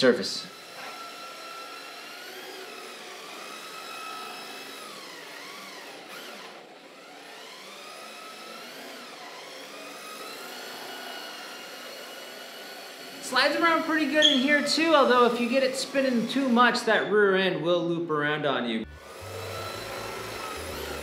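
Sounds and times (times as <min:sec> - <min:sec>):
electric motor whining: 0:00.0 - 0:16.8, 0:18.8 - 0:21.0.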